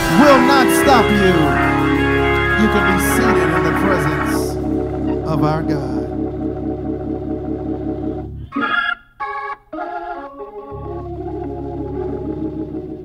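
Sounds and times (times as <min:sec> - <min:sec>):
organ playing chords: 0:00.0 - 0:13.0.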